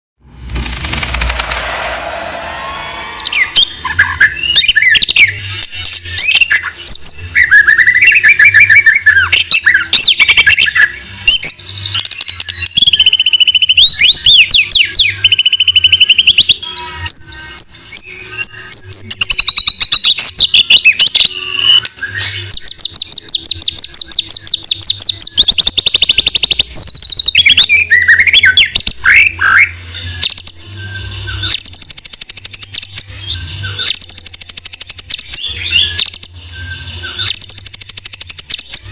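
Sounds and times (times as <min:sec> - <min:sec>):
songbird singing trills and whistles: 0:03.3 - 0:38.9.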